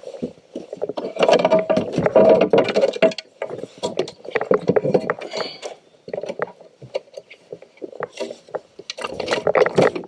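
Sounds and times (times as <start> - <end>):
gear clattering on plastic kayak: 0.0 - 10.0.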